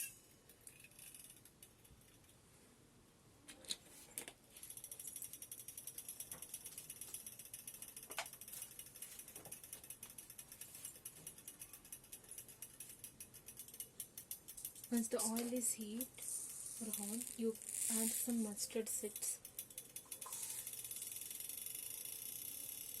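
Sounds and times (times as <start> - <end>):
oil crackling in a kettle: 4.4 - 23.0.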